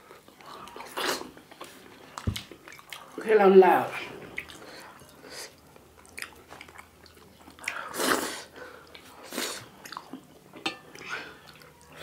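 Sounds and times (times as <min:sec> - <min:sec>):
chewing wet food: 0:00.1 - 0:03.2, 0:04.1 - 0:12.0.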